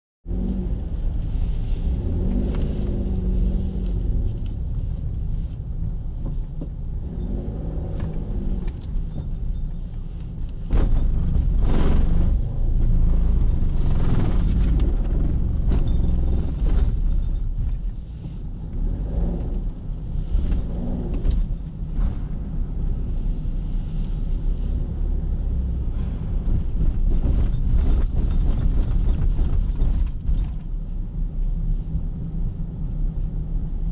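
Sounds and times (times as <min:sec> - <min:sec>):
car engine and tyres rumbling: 0:00.2 - 0:33.9.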